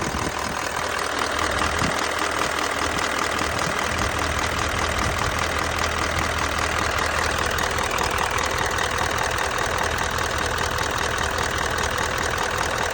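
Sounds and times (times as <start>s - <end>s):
engine idling: 0.0s - 12.9s
engine ticking: 0.0s - 12.9s.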